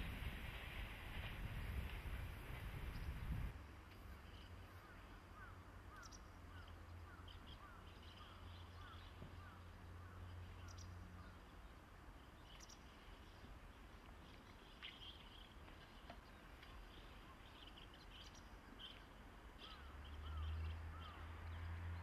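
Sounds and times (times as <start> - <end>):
birds calling: 4.2 - 22.0.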